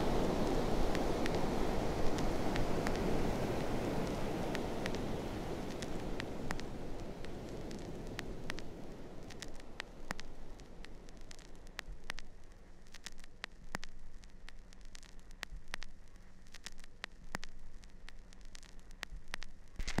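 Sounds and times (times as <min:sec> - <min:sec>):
crackling static: 0:00.0 - 0:20.0.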